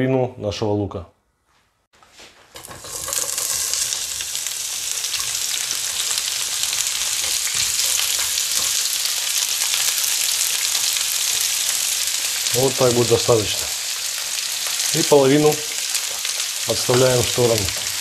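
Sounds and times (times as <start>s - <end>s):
onion sizzling in hot oil: 2.5s - 18.0s.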